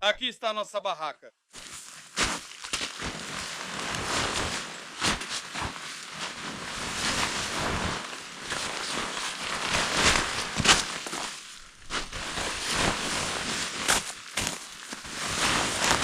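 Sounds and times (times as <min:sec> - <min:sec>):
tent fabric rustling: 0:01.5 - 0:16.0.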